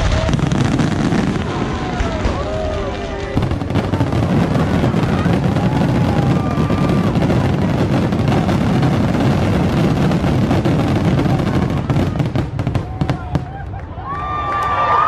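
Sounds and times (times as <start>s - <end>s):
fireworks booming and crackling: 0.0s - 13.8s.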